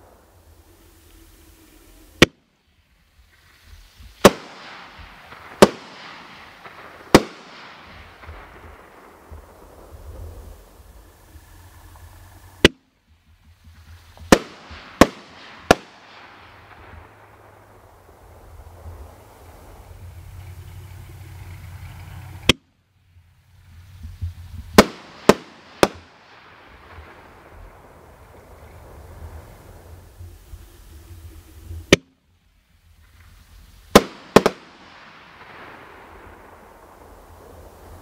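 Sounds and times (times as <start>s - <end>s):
hissing crackle: 0.0s - 38.0s
firework bangs: 3.2s - 22.6s, 23.6s - 30.9s, 33.0s - 38.0s.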